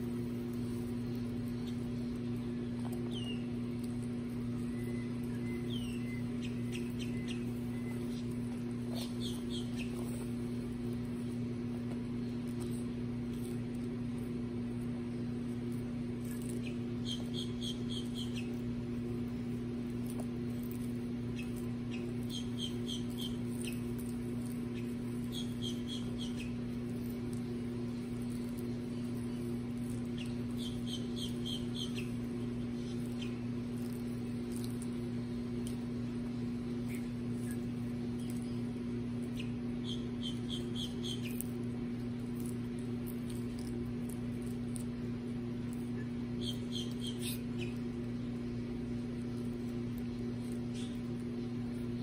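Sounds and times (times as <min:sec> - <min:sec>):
small birds chirping: 0:00.0 - 0:52.0
steady low hum: 0:00.0 - 0:52.0
tortoises munching lettuce: 0:00.0 - 0:52.0.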